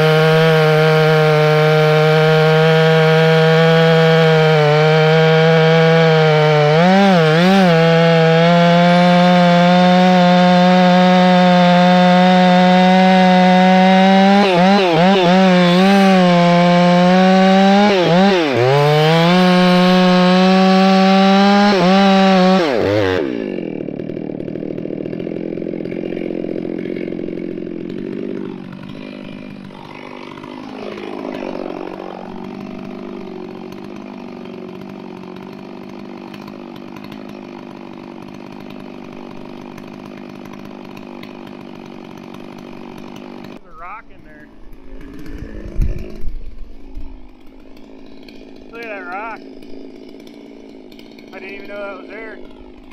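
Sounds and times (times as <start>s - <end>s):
chainsaw cutting wood: 0.0s - 52.9s
chainsaw idling: 0.0s - 52.9s.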